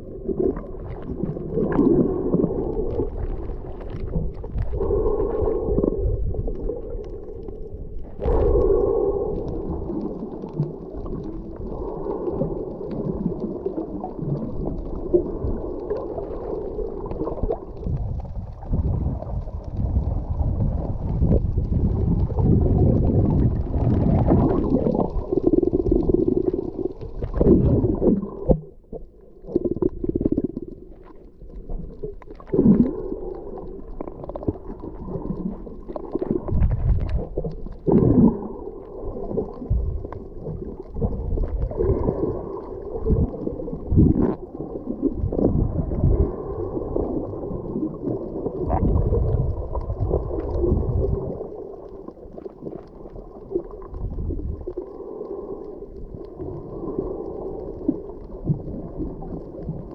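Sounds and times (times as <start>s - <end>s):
muffled underwater rumble: 0.0s - 59.9s
water gurgling against camera housing: 0.0s - 59.9s.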